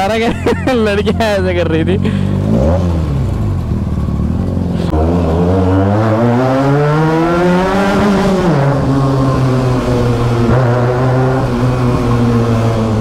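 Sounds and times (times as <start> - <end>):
motorcycle engine revving: 0.6 - 13.0.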